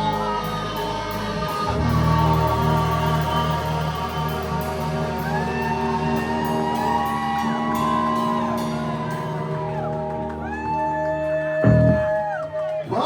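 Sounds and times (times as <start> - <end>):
live rock band playing: 0.0 - 10.6
crowd shouts and whoops: 0.0 - 13.0
electric guitar sliding notes: 0.0 - 13.0.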